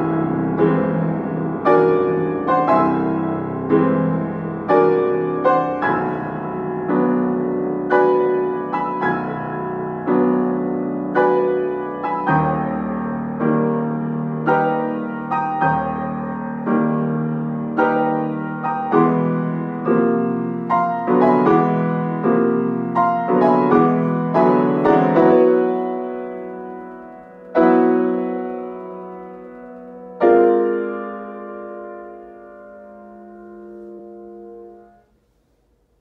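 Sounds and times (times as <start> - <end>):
grand piano chords: 0.0 - 36.0.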